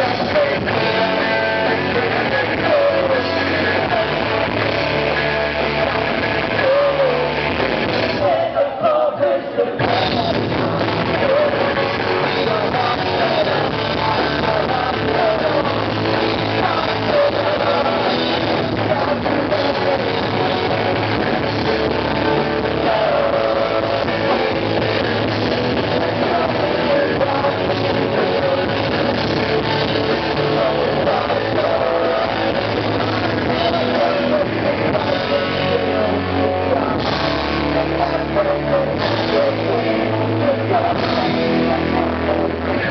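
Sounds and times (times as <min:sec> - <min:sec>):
drums: 0:00.0 - 0:42.9
electric guitar: 0:00.0 - 0:42.9
singer's vocals: 0:00.0 - 0:42.9.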